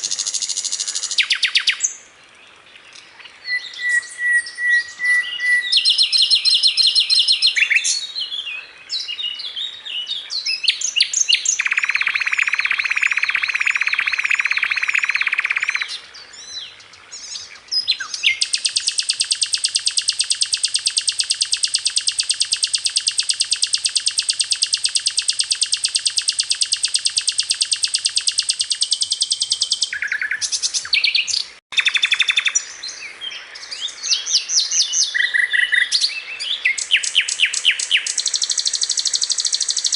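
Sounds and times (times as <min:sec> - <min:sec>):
bird chirps and trills: 0:00.0 - 0:02.1, 0:02.8 - 0:39.9.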